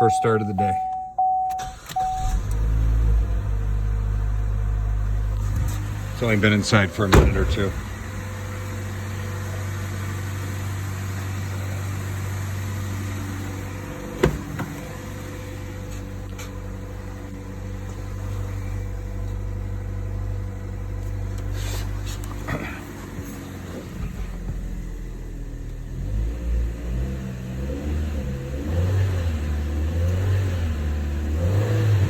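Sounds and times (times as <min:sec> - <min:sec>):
car engine idling: 0:00.0 - 0:28.6.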